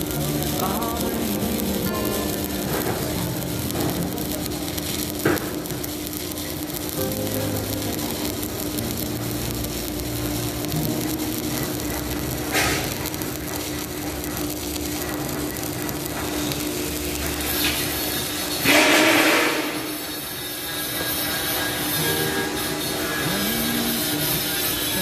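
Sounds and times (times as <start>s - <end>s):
welding arc crackling hiss: 0.0s - 25.0s.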